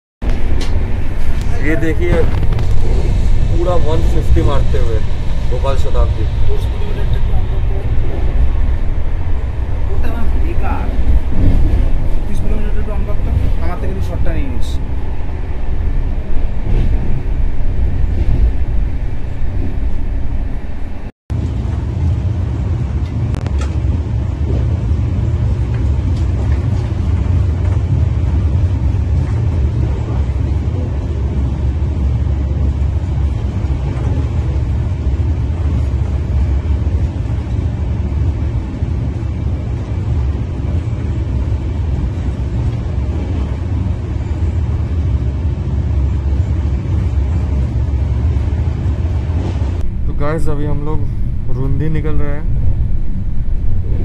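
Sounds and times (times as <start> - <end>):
train wheels rumbling on rail: 0.2 - 54.0.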